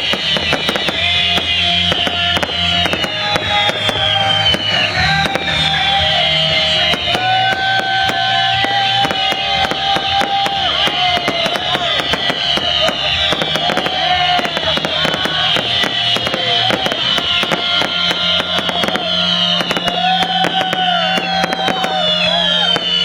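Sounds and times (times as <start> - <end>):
fireworks crackling and popping: 0.0 - 23.0
music: 0.0 - 23.0.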